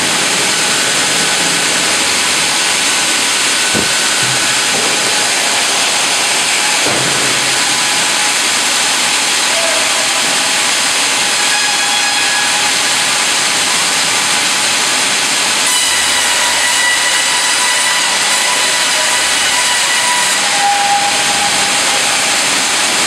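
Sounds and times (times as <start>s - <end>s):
band saw hiss-like noise: 0.0s - 23.0s.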